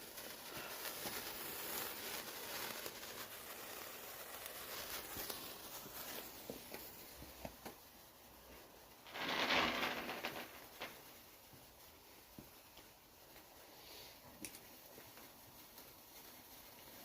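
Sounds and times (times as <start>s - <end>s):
rustling hiss: 0.0s - 17.0s
wood fire crackling: 0.0s - 17.0s.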